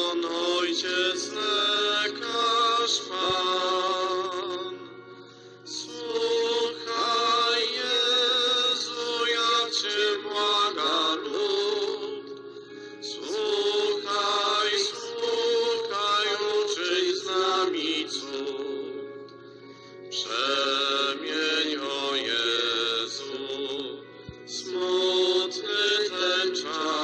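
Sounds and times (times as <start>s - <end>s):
chant-like church singing: 0.0s - 27.0s.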